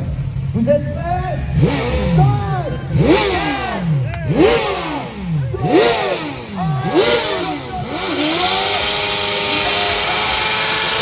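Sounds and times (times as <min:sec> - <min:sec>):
motorcycle engine revving: 0:01.2 - 0:11.0.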